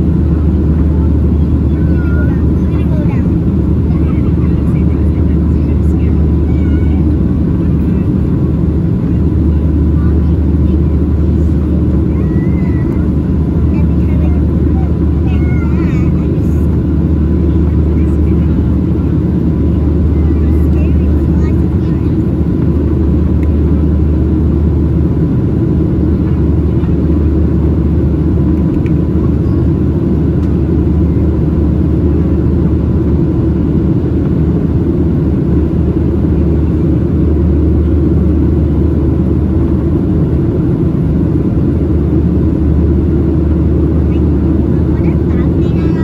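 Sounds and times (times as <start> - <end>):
aircraft cabin engine rumble: 0.0 - 46.0.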